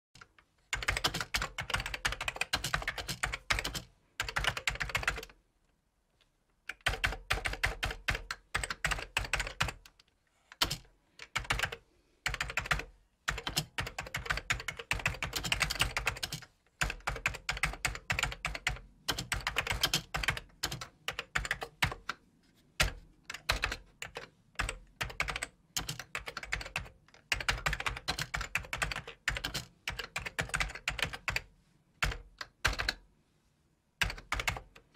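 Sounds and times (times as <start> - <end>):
typing on computer keyboard: 0.2 - 5.4, 6.6 - 22.2, 22.8 - 33.0, 34.0 - 34.9.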